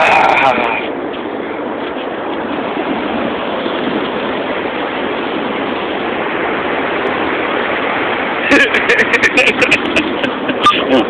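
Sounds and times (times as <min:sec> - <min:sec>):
heavy ocean surf breaking: 0:00.0 - 0:11.0.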